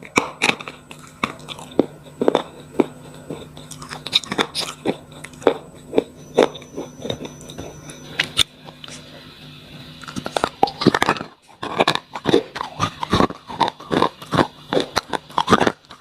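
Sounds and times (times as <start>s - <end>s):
chewing crunchy pencils: 0.0s - 9.2s, 9.9s - 16.0s.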